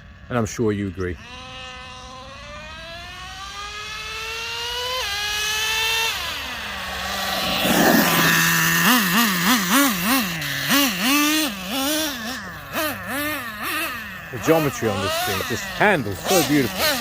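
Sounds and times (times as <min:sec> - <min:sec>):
model truck engine revving: 0:01.2 - 0:17.0.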